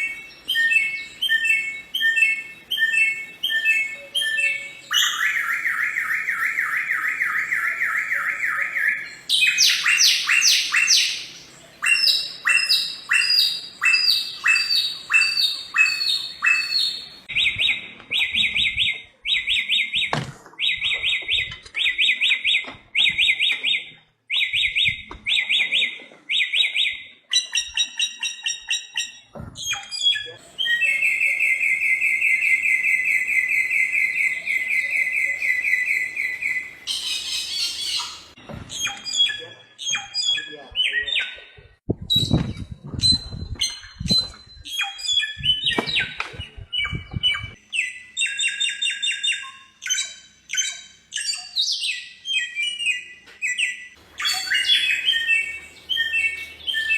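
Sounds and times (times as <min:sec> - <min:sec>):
bird singing varied song: 0:00.0 - 0:56.9.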